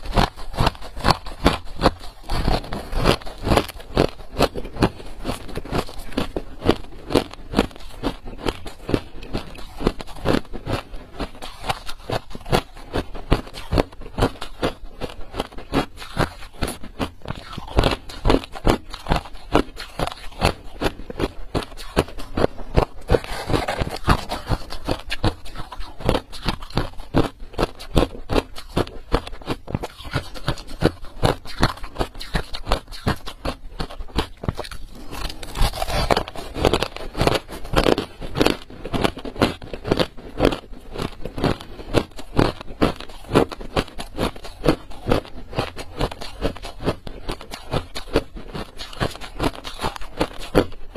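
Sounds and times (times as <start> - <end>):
ice crunching between teeth: 0.0 - 50.9.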